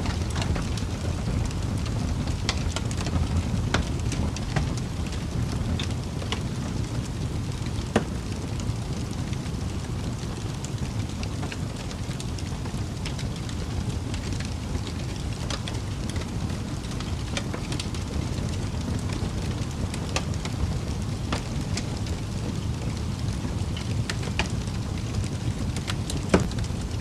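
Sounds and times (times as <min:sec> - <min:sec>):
fire crackles and pops: 0:00.0 - 0:27.0
rumble of fire flames: 0:00.0 - 0:27.0.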